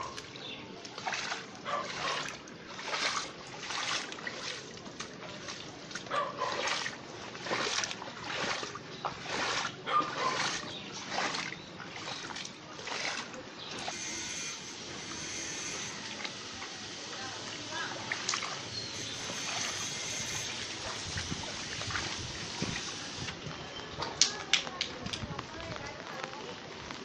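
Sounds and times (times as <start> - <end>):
footsteps splashing on wet street: 0.0 - 14.5, 17.3 - 27.0.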